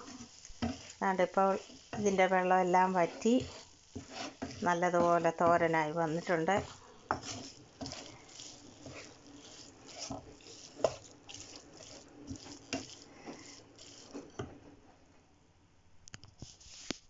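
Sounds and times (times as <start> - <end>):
wooden spatula scraping pan: 0.0 - 14.8.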